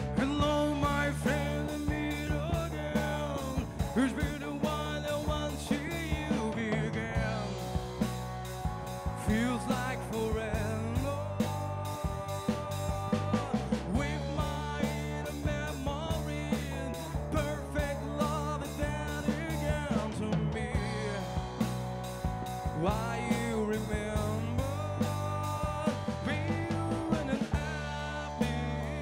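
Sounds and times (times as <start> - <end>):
drum kit beat: 0.0 - 29.0
electric bass: 0.0 - 29.0
electric guitar: 0.0 - 29.0
man singing: 0.0 - 29.0.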